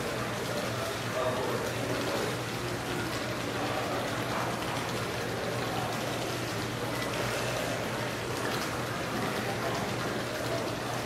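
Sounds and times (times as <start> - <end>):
faint voices: 0.0 - 11.0
fountain splashing: 0.0 - 11.0.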